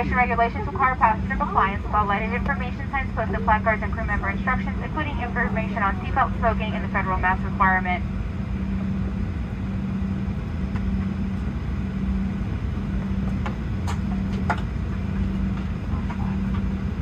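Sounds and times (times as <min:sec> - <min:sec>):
aircraft cabin hum: 0:00.0 - 0:17.0
low rumble: 0:00.0 - 0:17.0.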